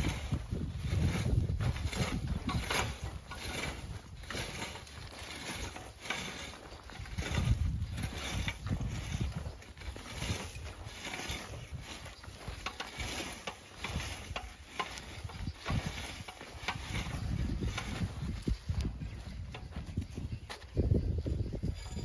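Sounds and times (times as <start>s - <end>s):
blade scraping through stony soil: 0.0s - 22.0s
stones and metal frame knocking: 0.0s - 22.0s.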